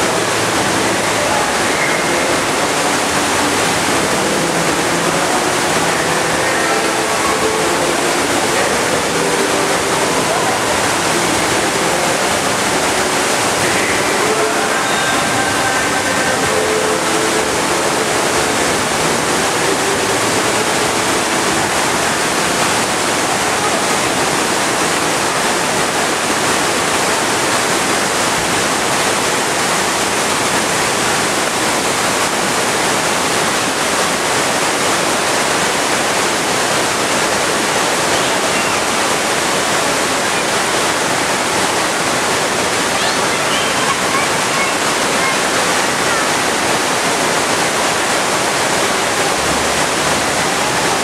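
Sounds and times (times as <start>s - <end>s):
water pouring and splashing: 0.0s - 51.0s.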